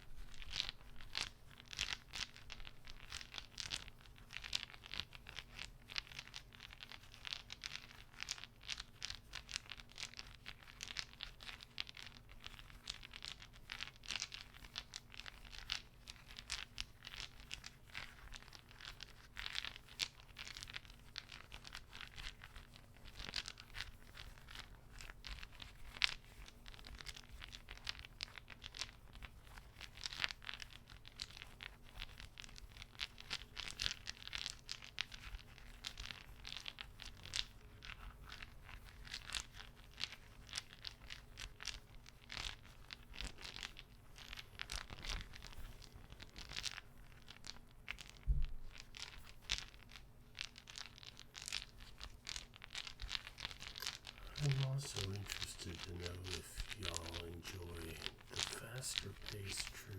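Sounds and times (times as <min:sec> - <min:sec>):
crinkly scratching: 0:00.0 - 0:59.9.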